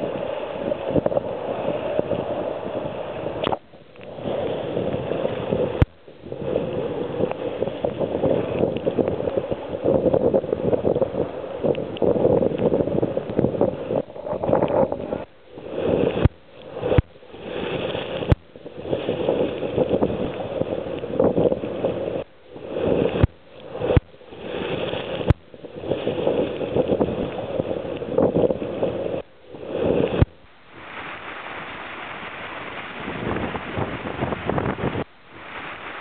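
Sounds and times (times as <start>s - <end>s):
water rushing past hull: 0.0s - 36.0s
wind buffeting microphone: 0.0s - 36.0s.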